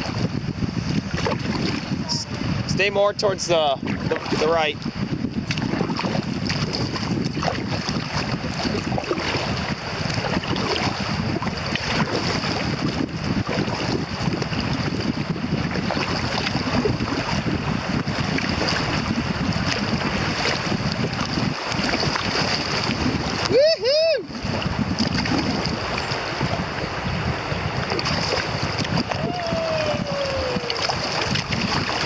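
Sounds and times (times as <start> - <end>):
river water rushing: 0.0 - 32.0
wind buffeting microphone: 0.0 - 32.0.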